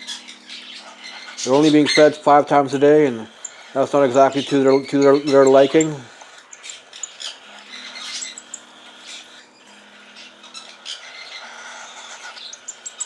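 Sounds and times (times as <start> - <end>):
baby birds begging chirps: 0.0 - 13.0.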